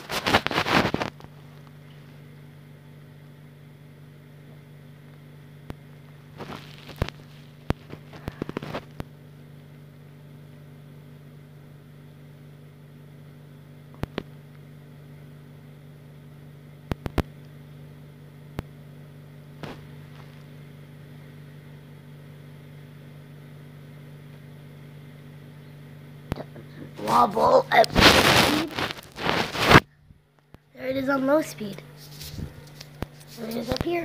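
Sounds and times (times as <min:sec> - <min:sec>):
ceiling fan humming: 0:00.0 - 0:34.0.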